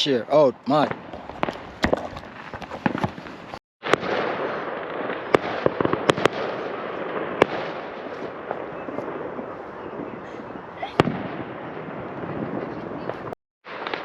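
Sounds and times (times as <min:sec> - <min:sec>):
fireworks banging and crackling: 0:00.7 - 0:14.0.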